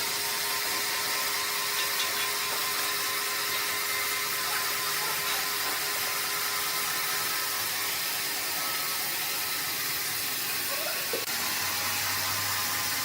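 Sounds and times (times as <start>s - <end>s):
sawmill machinery whirring: 0.0s - 13.0s.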